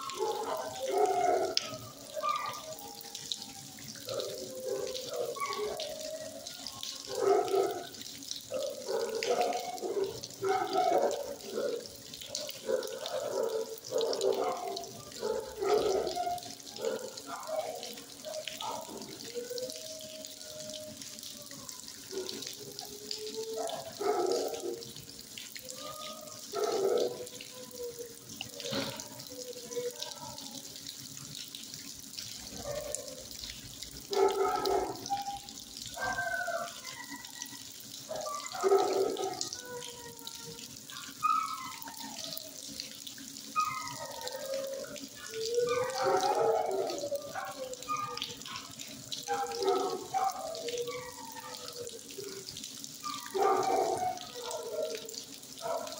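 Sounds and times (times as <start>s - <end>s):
dogs barking and howling: 0.0s - 55.9s
running water hiss: 0.0s - 55.9s.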